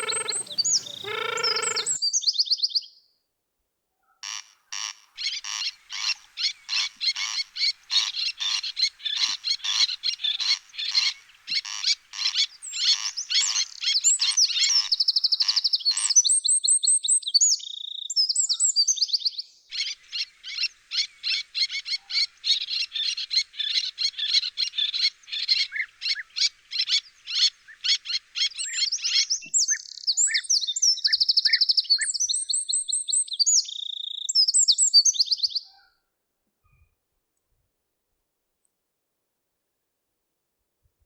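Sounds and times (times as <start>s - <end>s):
birds singing whistled phrases: 0.0s - 3.0s, 5.2s - 35.7s.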